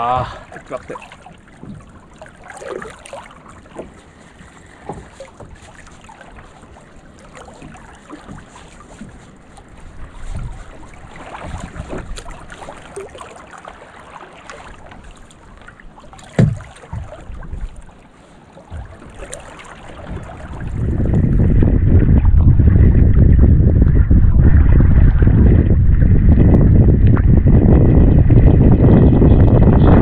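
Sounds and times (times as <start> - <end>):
wind buffeting microphone: 0.0 - 13.2, 18.7 - 30.0.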